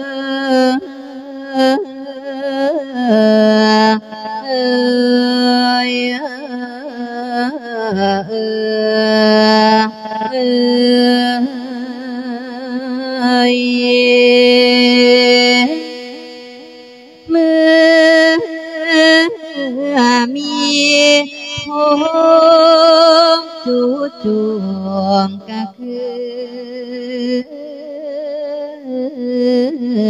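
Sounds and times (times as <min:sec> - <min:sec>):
person chanting with vibrato: 0:00.0 - 0:30.0.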